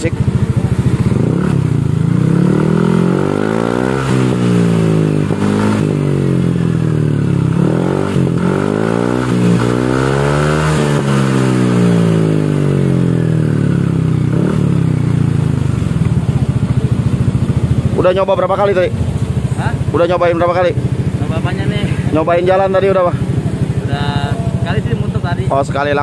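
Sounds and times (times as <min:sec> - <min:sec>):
scooter engine revving: 0:00.0 - 0:26.0.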